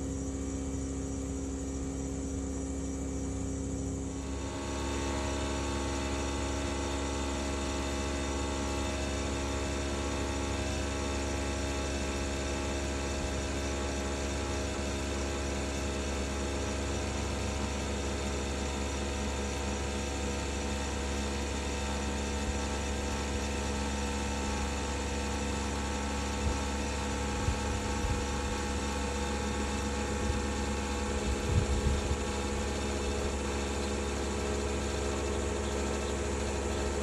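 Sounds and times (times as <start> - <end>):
heat pump grinding hum: 0.0 - 37.0.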